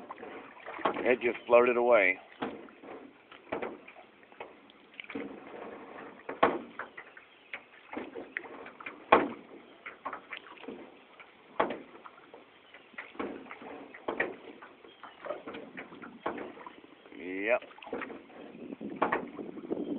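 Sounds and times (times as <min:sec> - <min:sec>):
paddles knocking wooden hull: 0:00.0 - 0:19.9
water splashing: 0:00.0 - 0:19.9.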